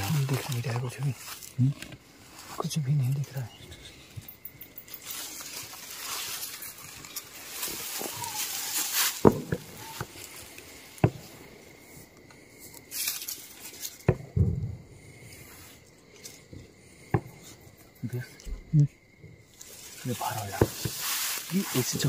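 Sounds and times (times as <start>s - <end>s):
dry grass rustling against clothing: 0.0s - 14.1s, 15.0s - 17.8s, 19.3s - 22.0s.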